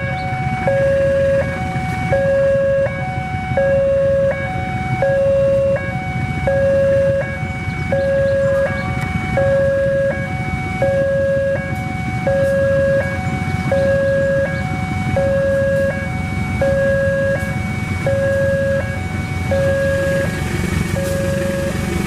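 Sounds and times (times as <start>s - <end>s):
level crossing two-tone alarm: 0.0s - 21.9s
diesel locomotive rumble: 0.0s - 22.0s.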